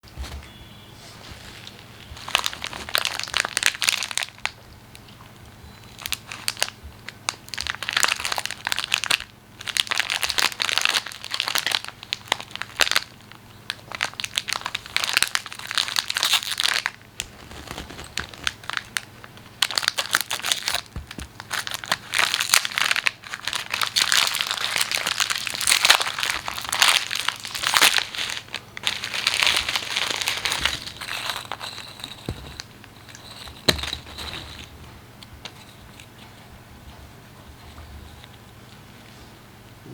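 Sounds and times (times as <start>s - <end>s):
snack packaging crinkling: 1.2s - 34.8s.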